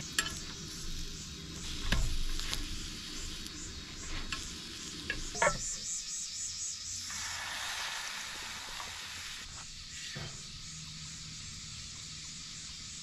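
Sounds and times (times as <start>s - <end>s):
egg sizzling on a griddle: 0.0s - 13.0s.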